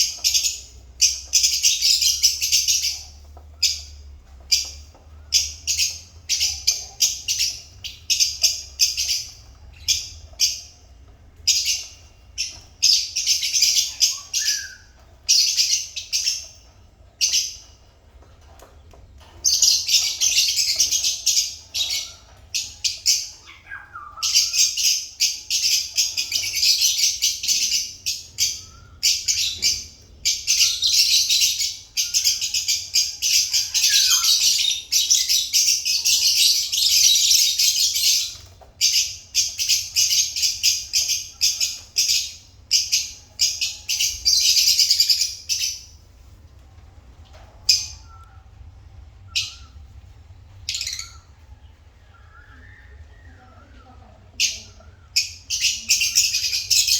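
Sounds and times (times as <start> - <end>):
lovebirds chirping: 0.0 - 56.9.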